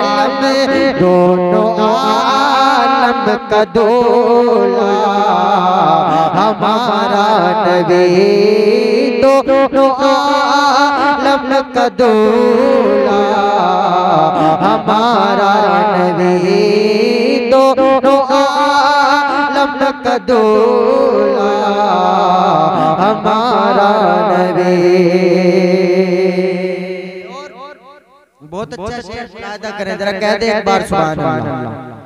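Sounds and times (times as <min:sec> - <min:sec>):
man singing with vibrato: 0:00.0 - 0:32.0.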